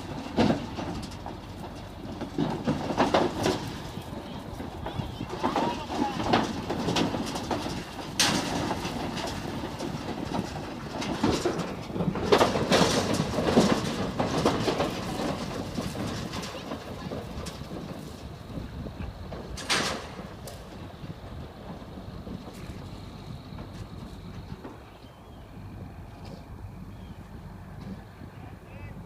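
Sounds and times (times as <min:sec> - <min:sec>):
steady rumble: 0:00.0 - 0:29.0
trailer rattling and clanking: 0:00.0 - 0:29.0.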